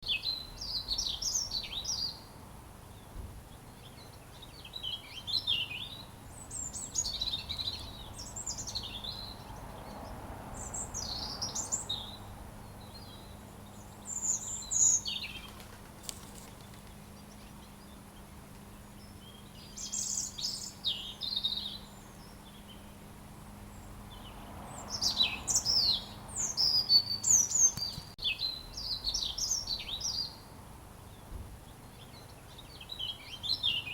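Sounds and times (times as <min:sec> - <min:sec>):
robin singing: 0:00.0 - 0:33.9.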